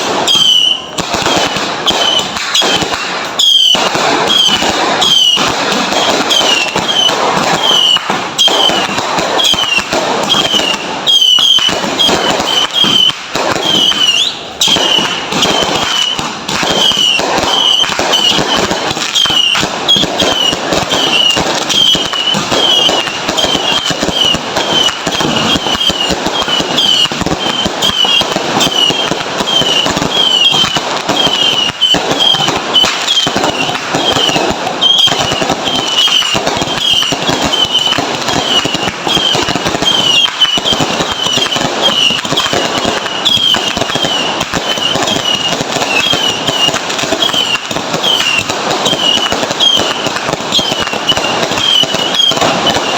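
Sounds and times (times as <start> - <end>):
firecrackers crackling and popping: 0.0 - 52.9.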